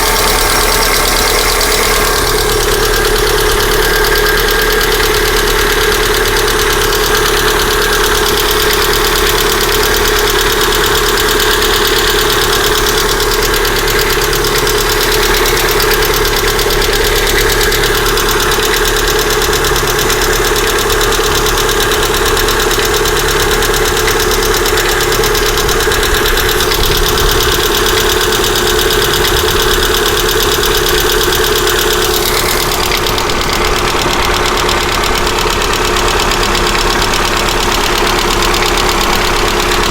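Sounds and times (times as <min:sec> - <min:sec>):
car engine idling: 0:00.0 - 0:39.9
fast valve ticking: 0:00.0 - 0:39.9.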